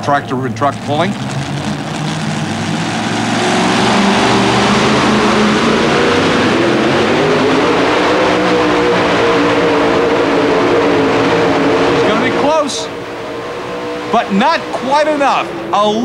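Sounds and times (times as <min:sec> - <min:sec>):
supercharged engine at full throttle: 0:00.0 - 0:16.0.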